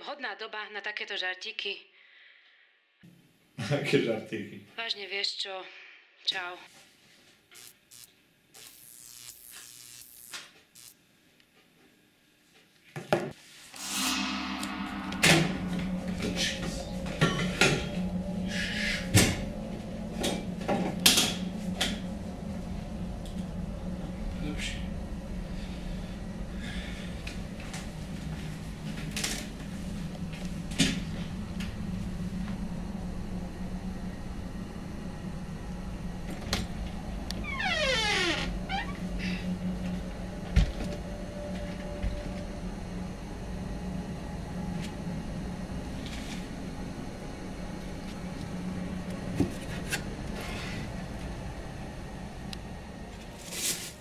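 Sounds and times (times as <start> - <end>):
steady low hum: 7.5 - 11.0, 13.5 - 54.0.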